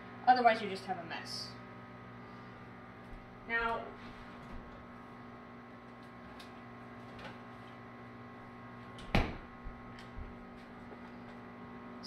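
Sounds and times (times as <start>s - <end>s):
appliance electrical hum: 0.0s - 12.0s.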